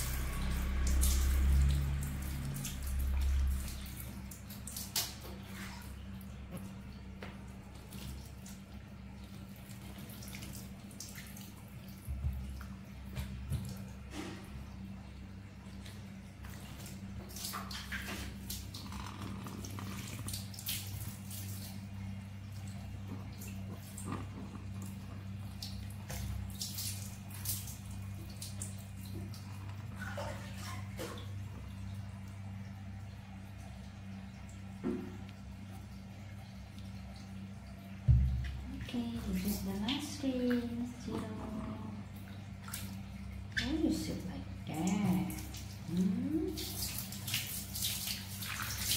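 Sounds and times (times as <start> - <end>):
low hum: 0.0 - 47.1
water splashing and dripping: 0.0 - 48.9.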